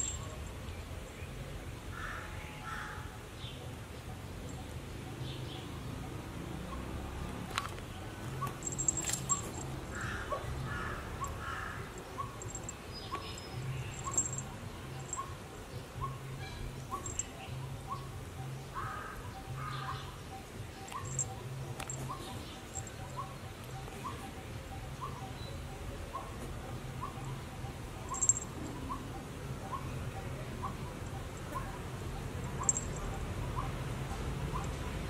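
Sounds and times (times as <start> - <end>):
faint high twitters: 0.0 - 1.2, 4.0 - 35.0.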